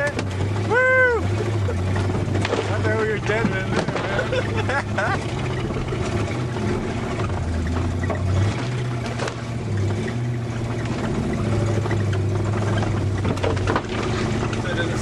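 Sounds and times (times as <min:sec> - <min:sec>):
car engine droning: 0:00.0 - 0:15.0
car body knocks and rattles: 0:01.9 - 0:15.0.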